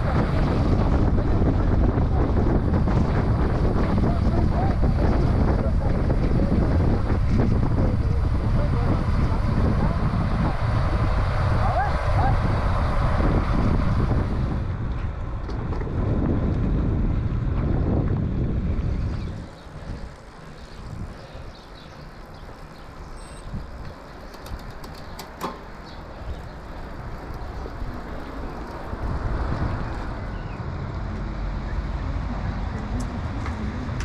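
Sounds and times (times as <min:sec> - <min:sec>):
rolling road noise: 0:00.0 - 0:34.0
wind buffeting microphone: 0:00.0 - 0:34.0.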